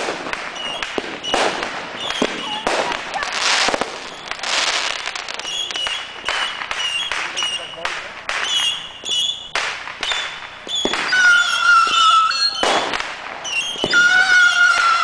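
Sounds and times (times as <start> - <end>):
fireworks bangs and crackles: 0.0 - 15.0
whistling fireworks: 0.0 - 15.0.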